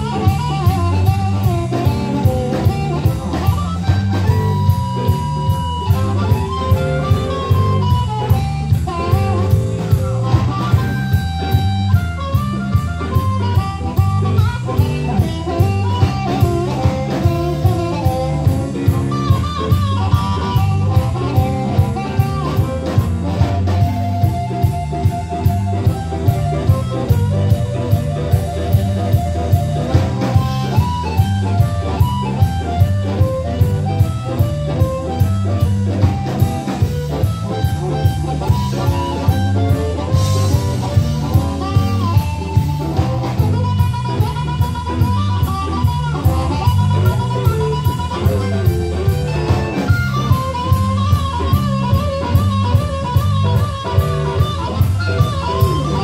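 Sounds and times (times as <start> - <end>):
bass: 0.0 - 56.0
drum kit beat: 0.0 - 56.0
guitar melody: 0.0 - 56.0.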